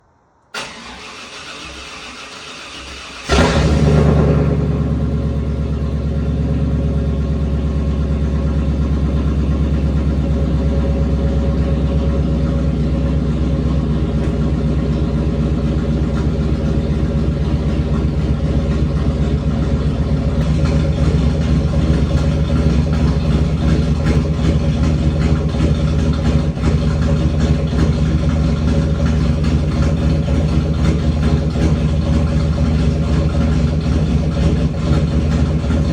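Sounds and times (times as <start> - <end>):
car engine idling: 2.0 - 35.9.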